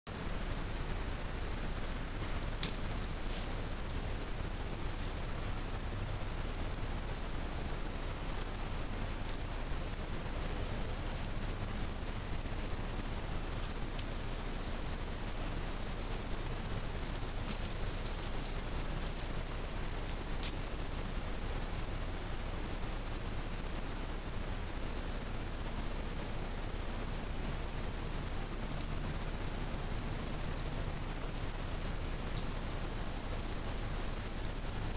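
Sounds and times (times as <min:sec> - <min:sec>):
insect chorus trilling: 0:00.1 - 0:34.9.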